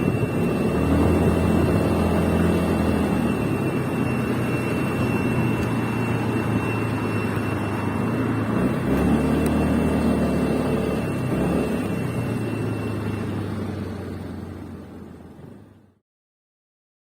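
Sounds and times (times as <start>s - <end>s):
scooter engine running: 0.0s - 15.9s
high-pitched whine: 0.0s - 16.0s.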